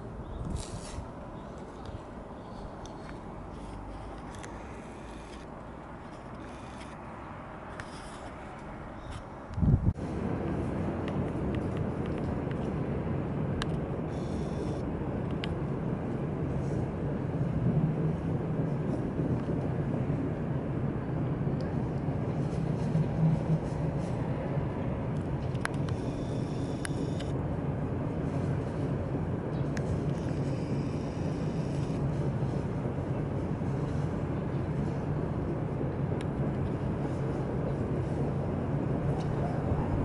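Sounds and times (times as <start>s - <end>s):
distant vehicles rumbling: 0.0s - 40.0s.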